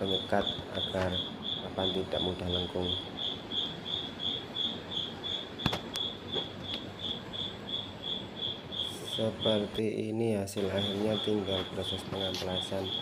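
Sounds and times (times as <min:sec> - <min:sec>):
cricket chirping: 0:00.0 - 0:09.9, 0:10.5 - 0:13.0.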